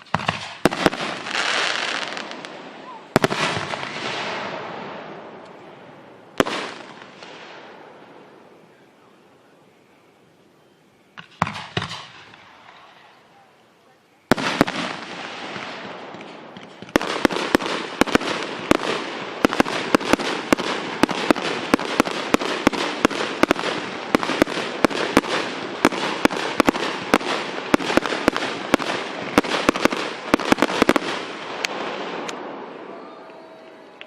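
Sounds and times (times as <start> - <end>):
fireworks cracking: 0.0 - 8.2, 11.2 - 13.4, 14.2 - 34.0.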